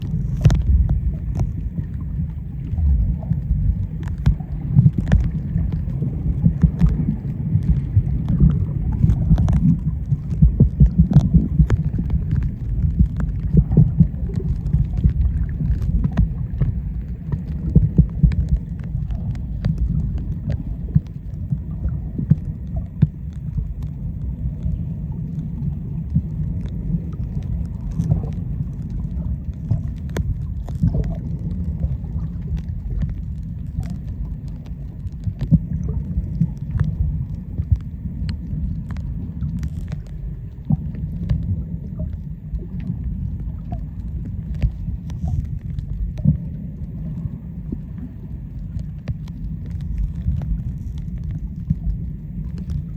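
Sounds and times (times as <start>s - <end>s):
faint small clicks: 0.0s - 2.0s, 2.7s - 52.9s
muffled underwater rumble: 0.0s - 52.9s.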